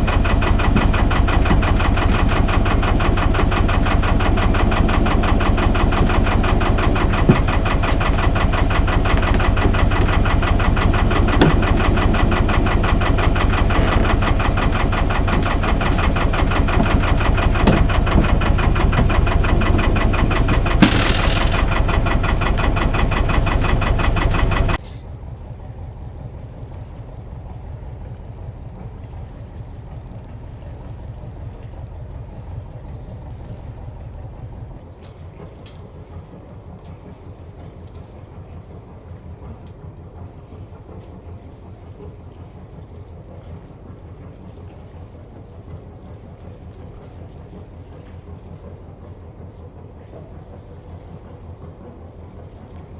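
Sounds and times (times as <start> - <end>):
boat engine pulsing: 0.0 - 52.9.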